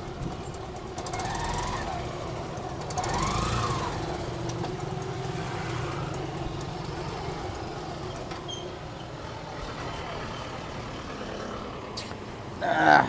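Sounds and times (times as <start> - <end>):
traffic engines rumbling: 0.0 - 13.0.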